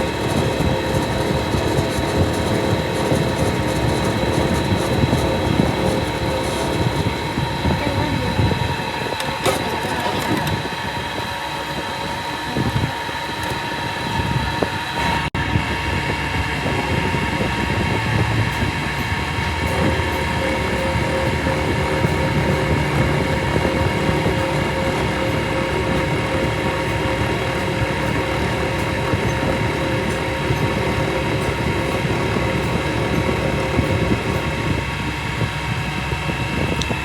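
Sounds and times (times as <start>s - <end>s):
low mechanical tone: 0.0s - 37.0s
workshop machinery whining: 0.0s - 37.0s.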